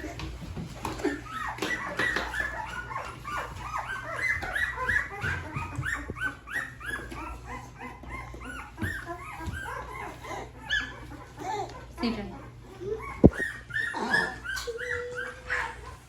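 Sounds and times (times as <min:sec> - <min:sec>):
puppies whining: 0:00.0 - 0:16.0.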